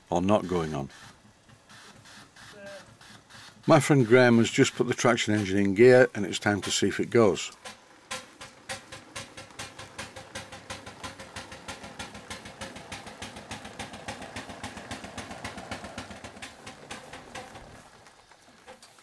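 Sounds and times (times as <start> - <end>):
steam engine exhaust chuffing: 0.0 - 19.0.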